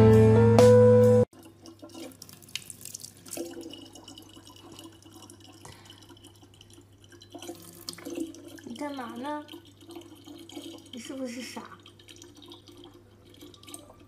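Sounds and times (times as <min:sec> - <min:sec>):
water trickling into plastic bottle: 0:01.3 - 0:14.0.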